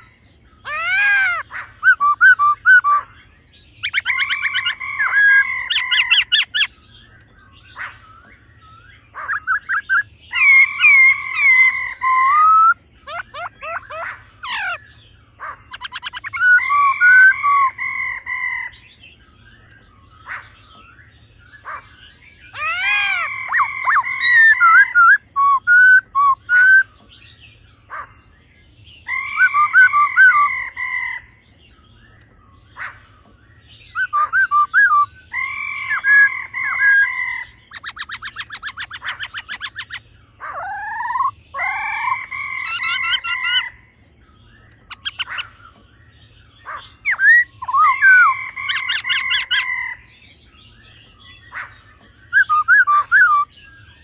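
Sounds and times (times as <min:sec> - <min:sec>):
bird whistled song: 0:00.0 - 0:54.0.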